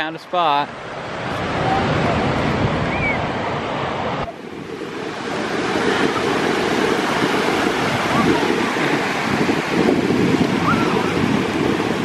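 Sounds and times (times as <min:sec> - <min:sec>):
surf breaking on beach: 0:00.0 - 0:12.0
wind rumbling on microphone: 0:00.7 - 0:12.0.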